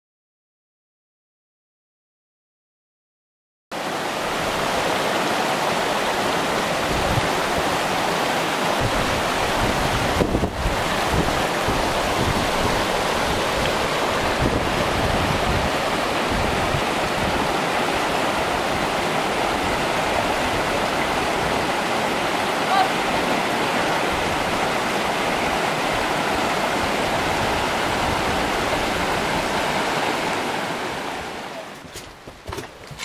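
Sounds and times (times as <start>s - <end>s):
stream water rushing over rocks: 3.7s - 32.0s
wind rumbling on microphone: 5.9s - 33.0s.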